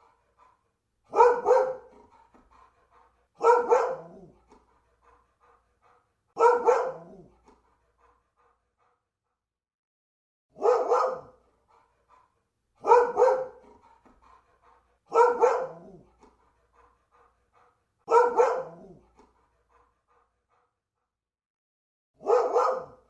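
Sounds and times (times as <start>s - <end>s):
dog barking: 0.0s - 9.0s, 10.5s - 20.7s, 22.2s - 23.0s.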